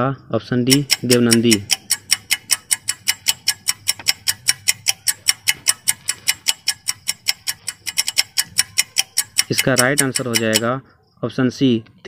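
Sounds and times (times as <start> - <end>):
rapid clock ticking: 0.5 - 10.8.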